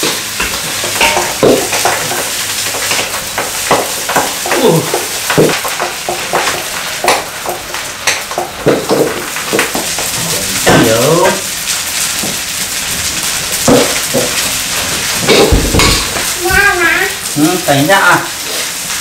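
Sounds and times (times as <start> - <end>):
egg sizzling in wok: 0.0 - 19.0.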